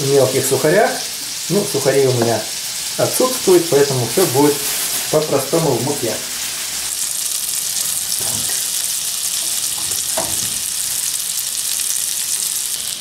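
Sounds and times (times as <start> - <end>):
meat sizzling in butter in a pan: 0.0 - 13.0.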